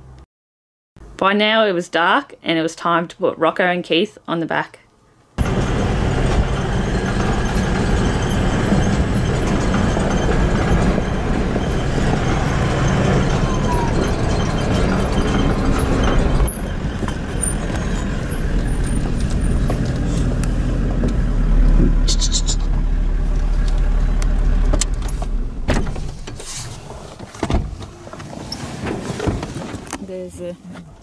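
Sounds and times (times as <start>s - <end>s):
vehicle driving with low rumble: 5.4s - 31.0s.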